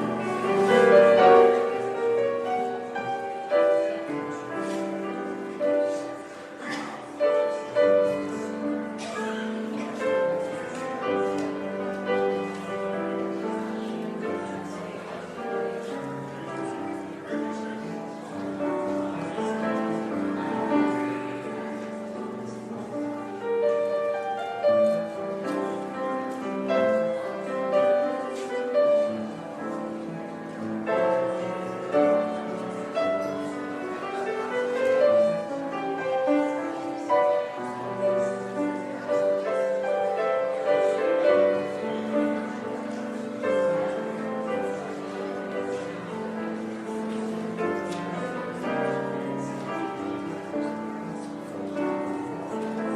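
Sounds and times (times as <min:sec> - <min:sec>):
slow solo piano: 0:00.0 - 0:52.9.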